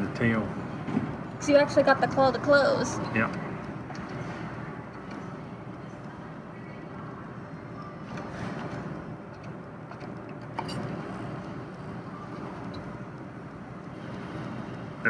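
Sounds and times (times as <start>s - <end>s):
claw machine working: 0.0s - 15.0s
steady background hum: 0.0s - 15.0s.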